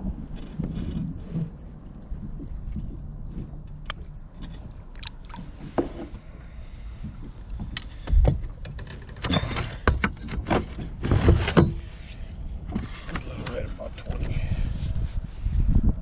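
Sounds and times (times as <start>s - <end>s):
clicks and knocks against hull: 0.1s - 6.3s, 7.0s - 14.4s.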